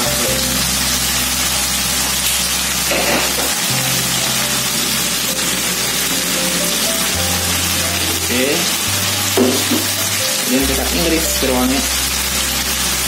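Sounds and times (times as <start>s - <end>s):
background music with low bass: 0.0s - 13.0s
chicken sizzling in a wok: 0.0s - 13.0s.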